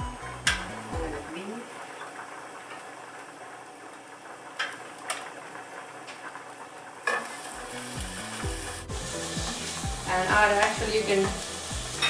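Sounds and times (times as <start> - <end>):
onions sizzling in frying pan: 0.0 - 12.0.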